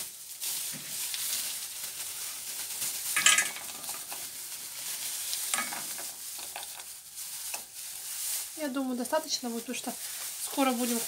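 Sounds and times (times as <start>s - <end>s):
water boiling in a pot: 0.0s - 11.0s.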